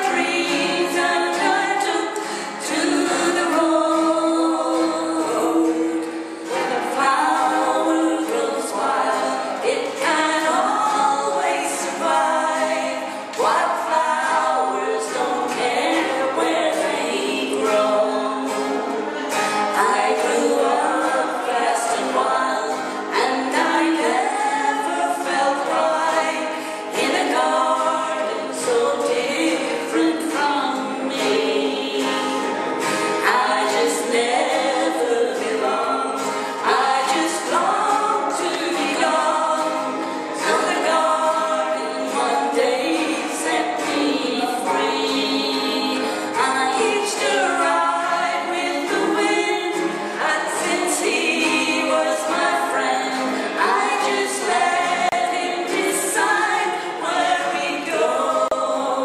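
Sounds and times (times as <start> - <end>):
acoustic guitars: 0.0 - 59.0
women singing in harmony: 0.0 - 59.0.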